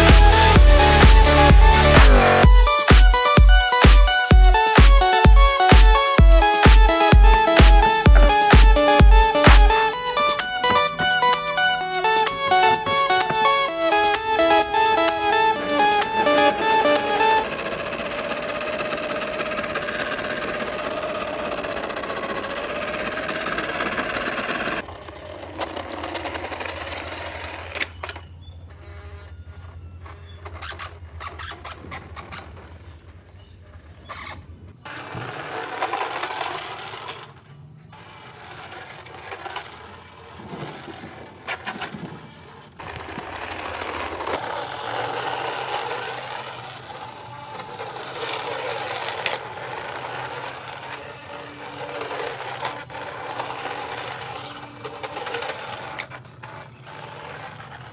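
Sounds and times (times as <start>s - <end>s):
small electric motor whirring: 0.0s - 57.9s.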